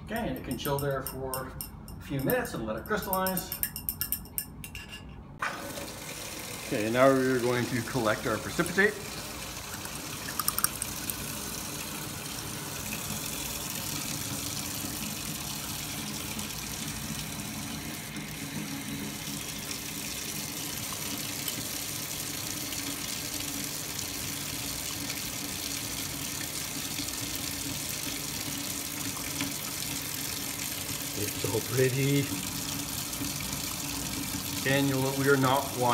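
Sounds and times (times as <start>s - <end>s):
tap water running into sink: 5.4s - 35.9s.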